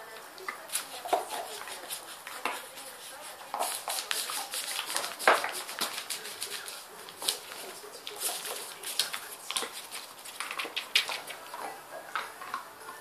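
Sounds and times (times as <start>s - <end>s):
newspaper rustling: 0.7s - 11.5s.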